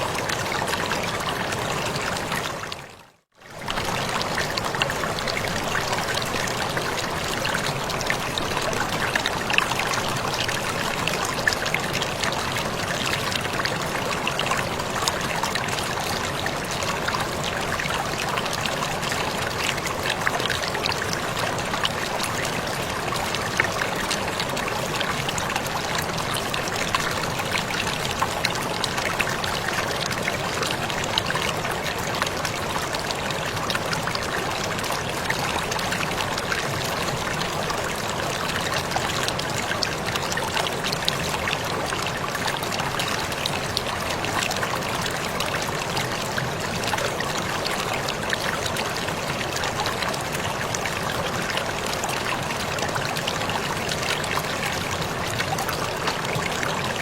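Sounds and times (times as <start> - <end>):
small waterfall pouring: 0.0 - 57.0
water splashes and drips: 0.0 - 57.0.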